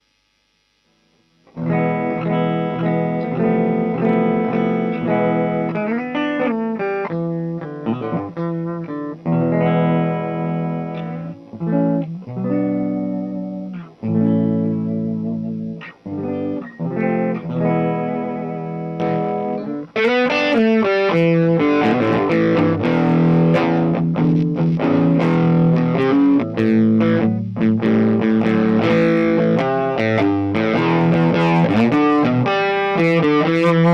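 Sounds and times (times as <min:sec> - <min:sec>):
electric guitar playing chords: 0:00.0 - 0:33.9.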